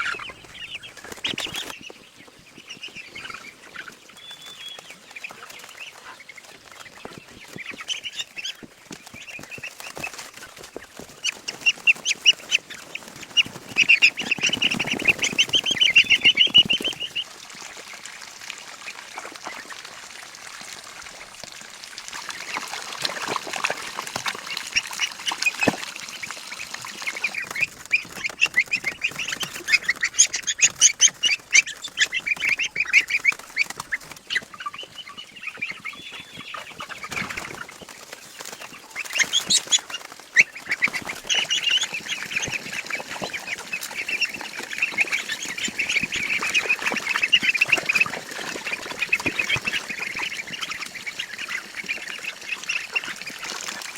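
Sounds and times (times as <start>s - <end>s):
poultry calling: 0.0s - 17.3s, 22.1s - 53.9s.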